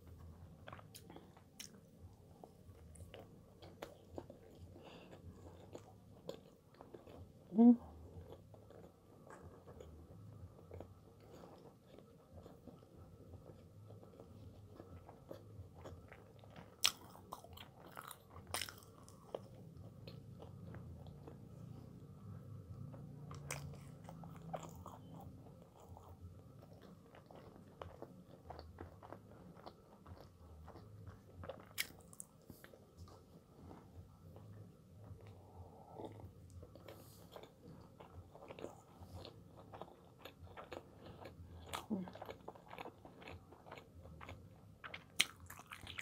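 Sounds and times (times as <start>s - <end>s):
chewing and biting bread: 0.0s - 46.0s.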